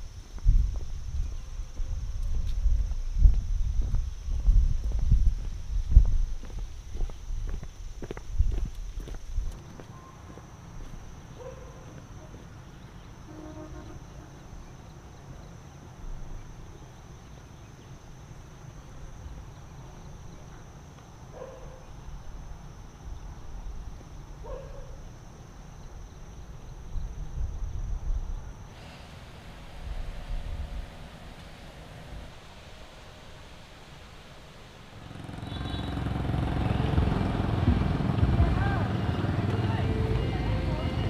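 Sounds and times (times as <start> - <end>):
insects chirring: 0.0 - 37.4.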